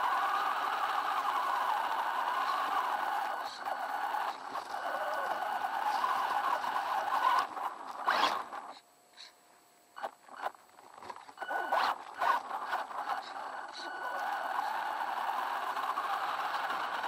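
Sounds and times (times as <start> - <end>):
tyres scraping on dirt: 0.0 - 8.8, 10.0 - 17.0
toy car motor whining: 0.0 - 9.4, 10.0 - 17.0.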